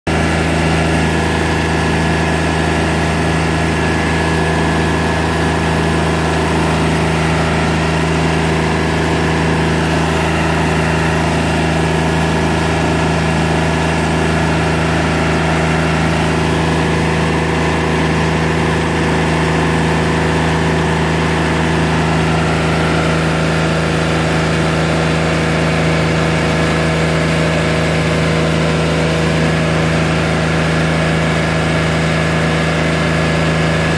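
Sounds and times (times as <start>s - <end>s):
band sawmill cutting a log: 0.1s - 33.9s.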